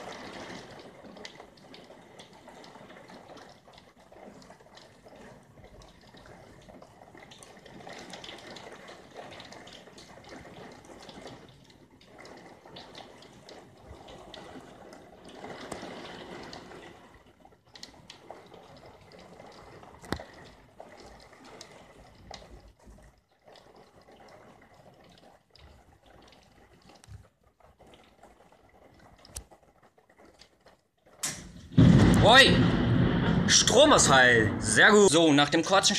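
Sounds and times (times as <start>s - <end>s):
drops dripping and pattering: 0.0s - 35.9s
steady rain falling: 0.0s - 35.9s.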